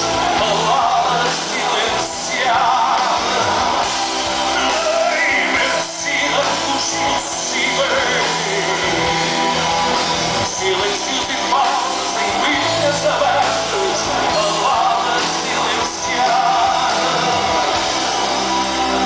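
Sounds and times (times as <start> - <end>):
man singing: 0.0 - 3.8, 4.4 - 9.7, 10.4 - 17.8
live rock band playing: 0.0 - 19.0.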